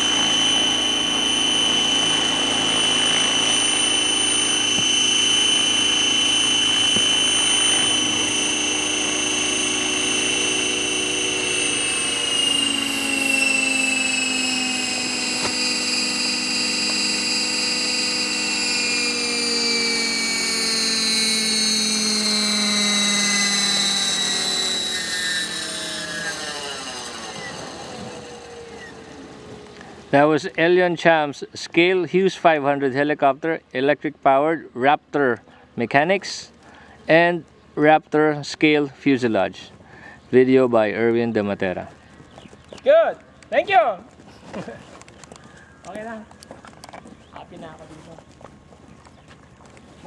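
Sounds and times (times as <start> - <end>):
rc helicopter motor whine: 0.0 - 33.4, 34.9 - 50.0
helicopter rotor noise: 0.0 - 50.0.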